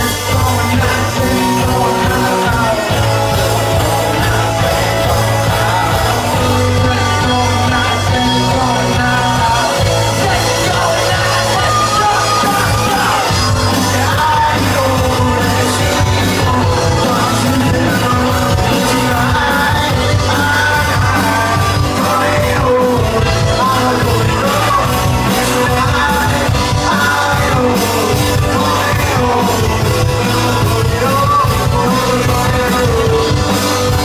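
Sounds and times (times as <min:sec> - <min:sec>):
bass line: 0:00.0 - 0:34.0
live rock band playing: 0:00.0 - 0:34.0
person singing: 0:00.0 - 0:34.0.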